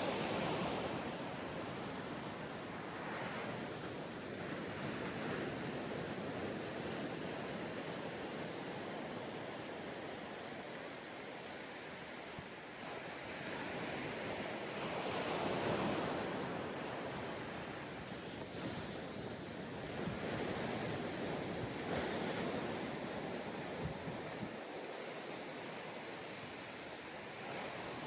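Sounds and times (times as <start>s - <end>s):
waves breaking on sandy beach: 0.0s - 28.0s.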